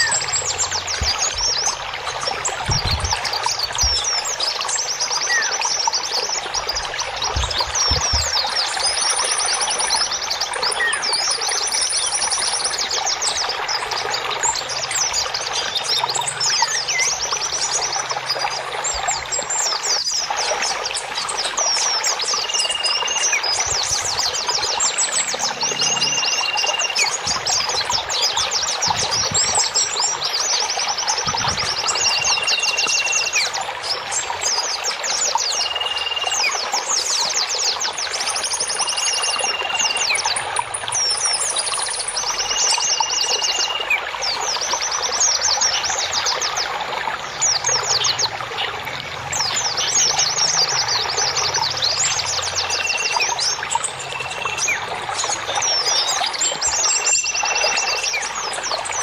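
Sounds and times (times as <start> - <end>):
running water: 0.0 - 59.0
songbirds chirping: 0.0 - 59.0.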